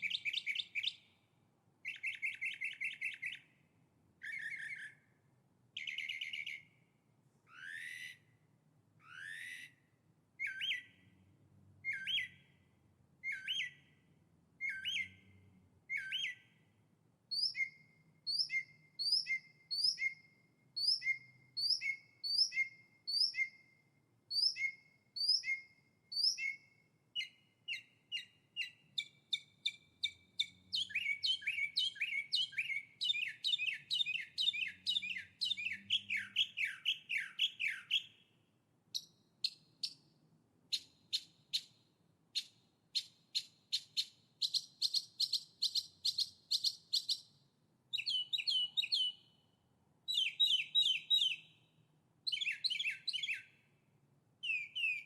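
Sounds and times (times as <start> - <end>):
songbird singing: 0.0 - 8.4, 9.0 - 40.1, 40.7 - 53.8, 54.4 - 55.0.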